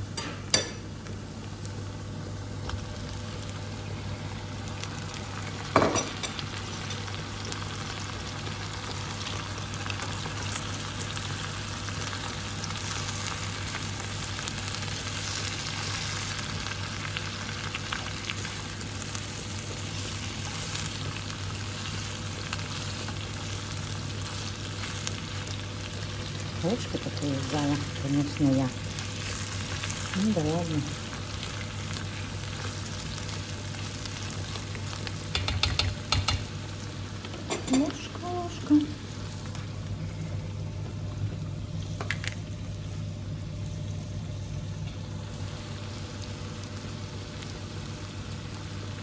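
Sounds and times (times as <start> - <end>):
onion sizzling in a pan: 0.0 - 49.0.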